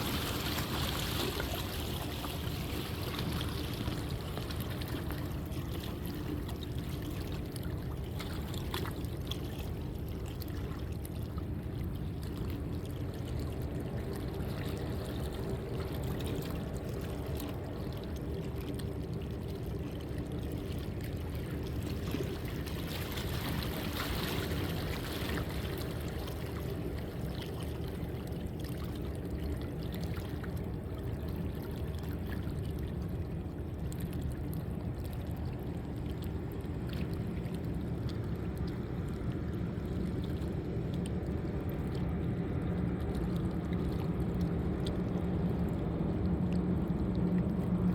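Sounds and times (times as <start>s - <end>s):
faint low engine hum: 0.0s - 47.9s
rushing water: 0.0s - 47.9s.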